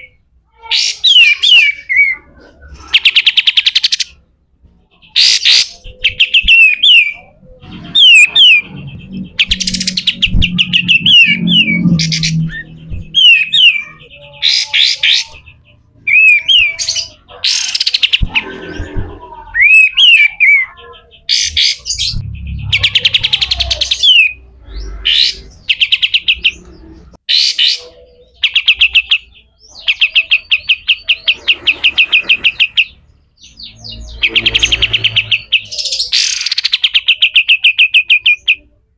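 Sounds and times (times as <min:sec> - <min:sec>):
songbird chattering song: 0:04.9 - 0:38.8.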